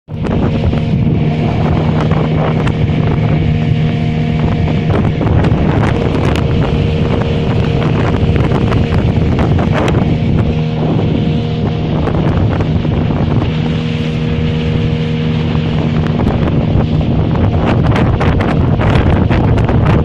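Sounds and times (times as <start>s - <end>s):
boat engine drone: 0.0s - 20.0s
wind rushing over microphone: 0.0s - 20.0s.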